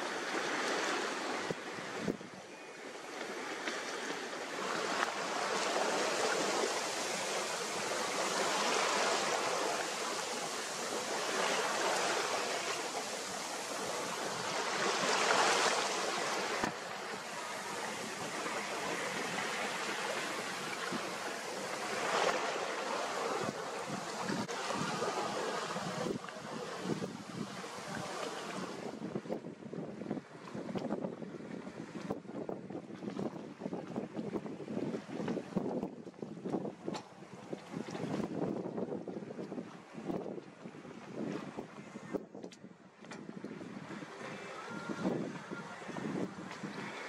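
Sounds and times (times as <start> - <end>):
water splashing along boat hull: 0.0 - 47.0.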